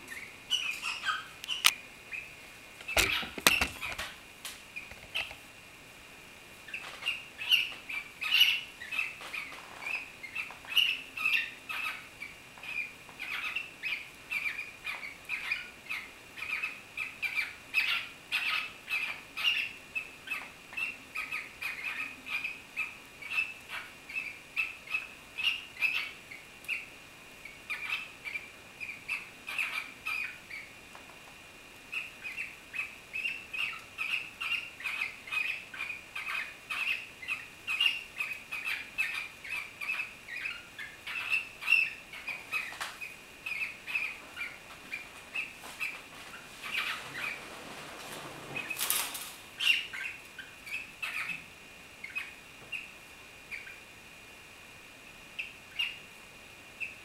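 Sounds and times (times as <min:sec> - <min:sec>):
cockatiels chirping: 0:00.0 - 0:02.3, 0:02.9 - 0:04.2, 0:06.7 - 0:30.7, 0:31.9 - 0:47.6, 0:48.5 - 0:51.4, 0:52.0 - 0:52.9, 0:53.5 - 0:53.8, 0:55.4 - 0:56.1.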